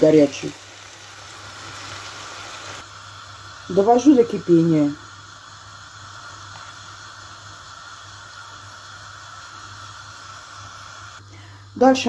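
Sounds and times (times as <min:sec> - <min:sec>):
hiss of pan heating water: 0:00.0 - 0:12.0.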